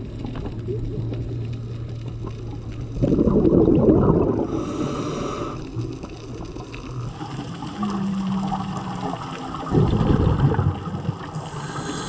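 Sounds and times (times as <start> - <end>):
underwater bubbles gurgling: 0.0 - 12.0.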